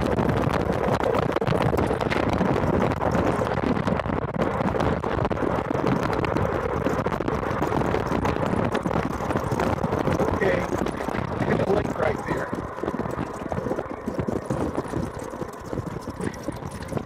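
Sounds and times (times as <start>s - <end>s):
golf cart rumbling: 0.0s - 17.0s
wind buffeting microphone: 0.0s - 17.0s.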